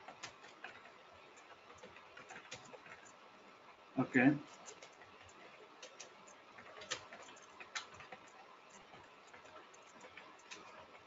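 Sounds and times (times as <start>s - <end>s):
keyboard typing clicks: 0.0s - 3.2s, 4.5s - 11.0s.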